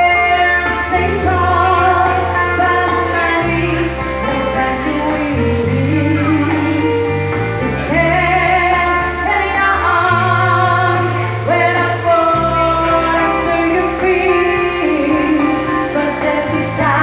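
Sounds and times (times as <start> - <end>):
pop backing music with bass: 0.0 - 17.0
woman singing: 0.0 - 17.0.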